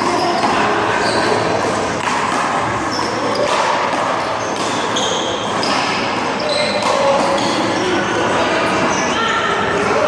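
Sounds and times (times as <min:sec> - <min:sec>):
noisy background: 0:00.0 - 0:10.0.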